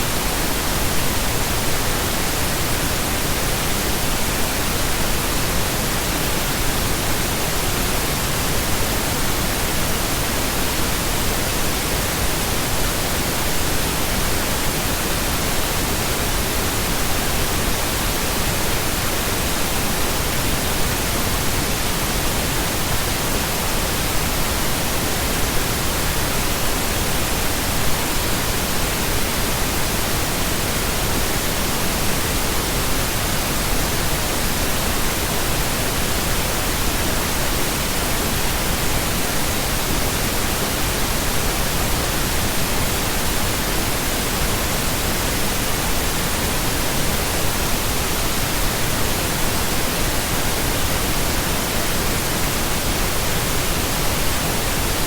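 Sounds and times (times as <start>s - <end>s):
pink noise hiss: 0.0s - 55.0s.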